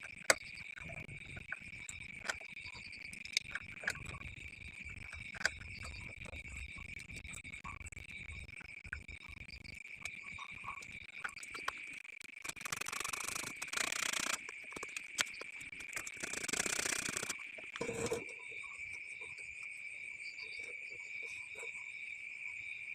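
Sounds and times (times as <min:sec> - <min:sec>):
high-pitched insect trill: 0:00.1 - 0:22.9.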